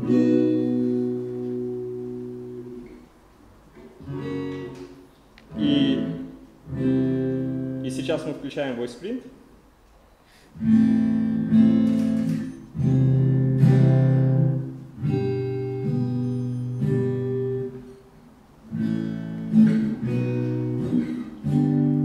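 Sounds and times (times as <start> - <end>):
acoustic guitar strumming chords: 0.0 - 3.2, 3.8 - 8.4, 10.6 - 22.0.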